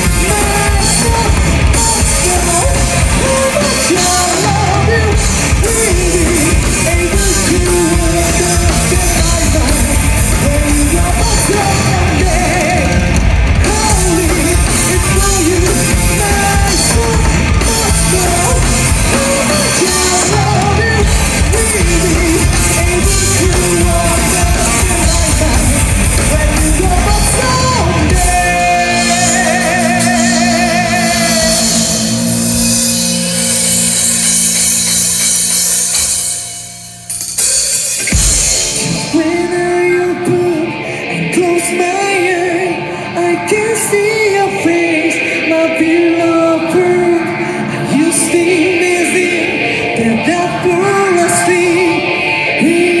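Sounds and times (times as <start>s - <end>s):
person singing: 0.0s - 36.6s, 38.0s - 53.0s
live rock band playing: 0.0s - 53.0s
wavering lead guitar line: 0.0s - 53.0s.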